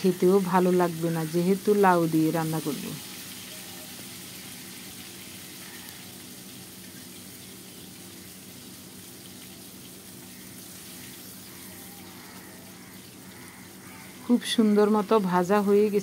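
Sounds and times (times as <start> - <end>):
fish sizzling in hot oil: 0.0 - 14.3.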